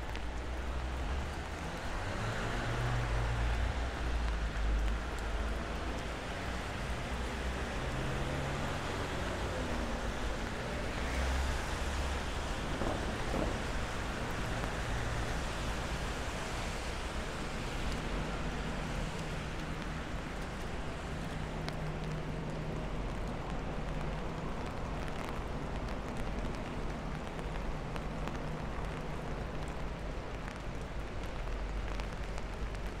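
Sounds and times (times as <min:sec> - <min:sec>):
passing traffic: 0:00.0 - 0:33.0
rain hissing: 0:00.1 - 0:33.0.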